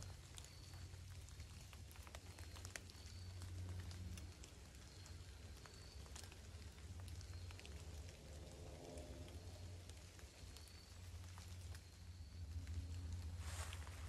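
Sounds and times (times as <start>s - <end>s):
faint scattered ticks: 0.0s - 14.0s
low steady hum: 0.0s - 14.0s.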